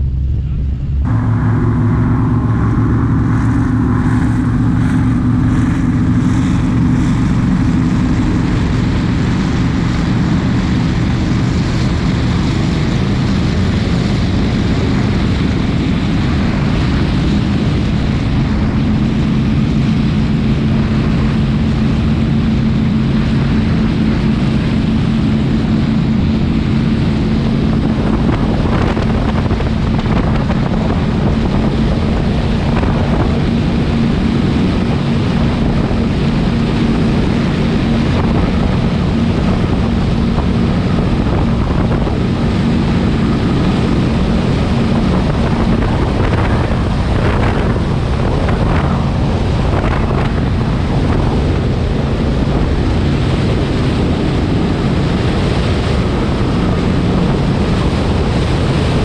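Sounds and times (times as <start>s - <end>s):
powerboat engines droning: 0.0s - 59.0s
wind and water rushing: 0.0s - 59.0s.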